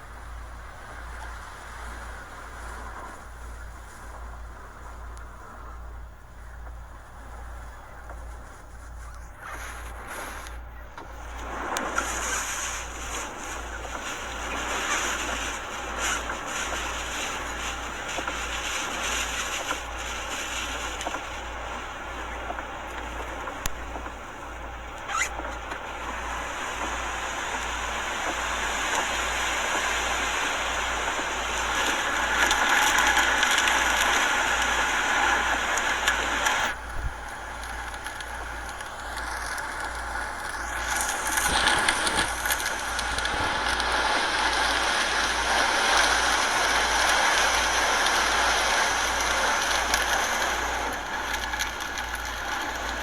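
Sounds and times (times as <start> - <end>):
high whistling wind tone: 0.0 - 53.0
hurricane wind howling: 0.0 - 53.0.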